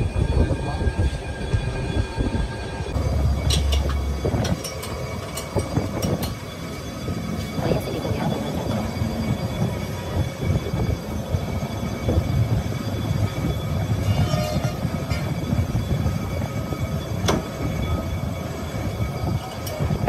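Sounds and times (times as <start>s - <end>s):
metal lathe running: 2.8s - 20.0s.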